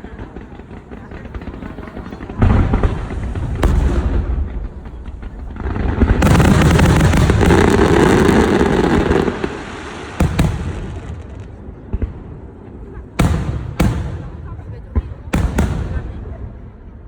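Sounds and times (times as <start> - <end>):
firework crackling: 0.0 - 16.4
firework bangs: 0.0 - 16.7.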